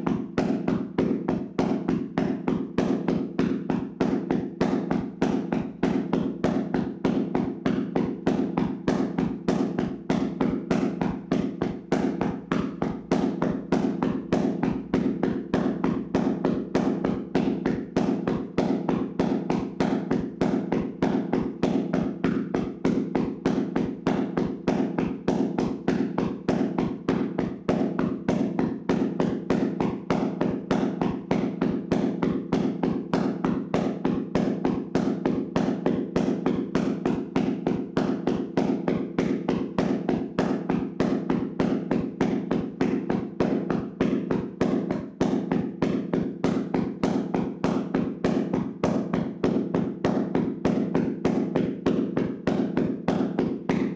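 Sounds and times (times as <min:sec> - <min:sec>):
hands slapping a body: 0:00.0 - 0:53.9.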